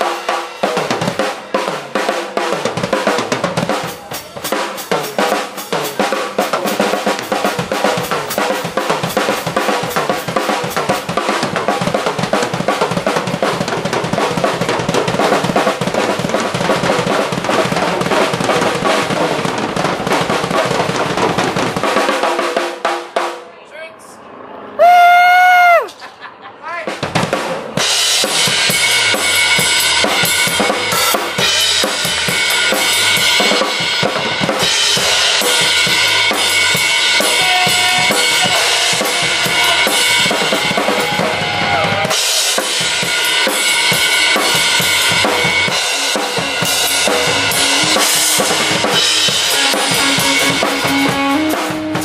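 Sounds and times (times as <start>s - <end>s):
drum solo: 0.0s - 23.4s, 26.8s - 52.0s.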